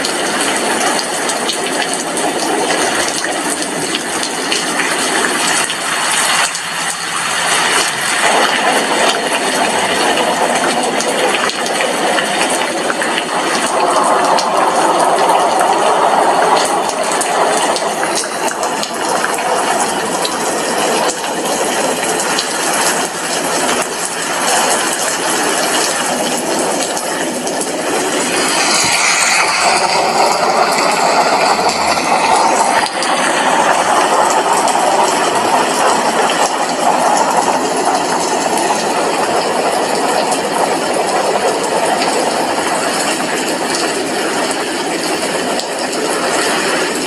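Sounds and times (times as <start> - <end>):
rain pattering on window glass: 0.0 - 47.0.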